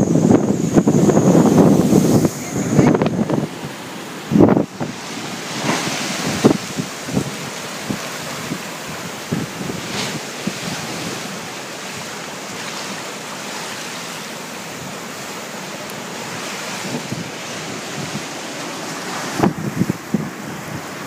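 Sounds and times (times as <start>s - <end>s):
gale blowing: 0.0s - 21.0s
sea water washing: 0.0s - 21.0s
wind buffeting microphone: 0.0s - 21.0s.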